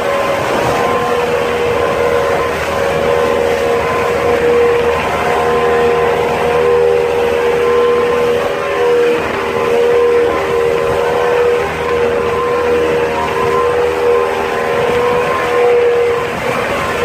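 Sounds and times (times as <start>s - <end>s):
speedboat engine whine: 0.0s - 17.0s
water wash: 0.0s - 17.0s.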